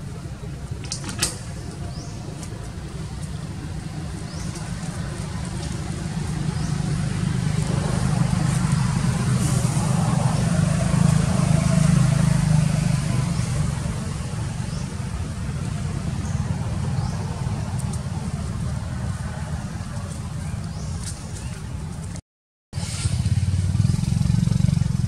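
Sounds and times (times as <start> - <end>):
vehicle engine rumble passing: 0.0 - 22.2, 22.8 - 25.0.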